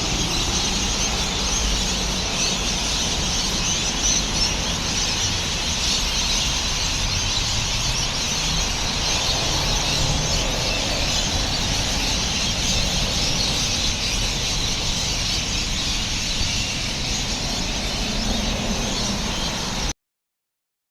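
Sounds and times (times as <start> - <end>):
chorus of birds calling: 0.0 - 19.9.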